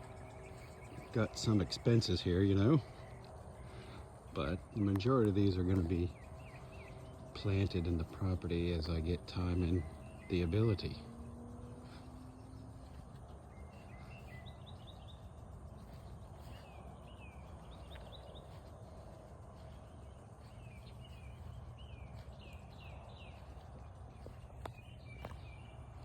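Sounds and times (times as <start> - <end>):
outdoor background hum: 0.0 - 26.0
small birds chirping: 0.0 - 26.0.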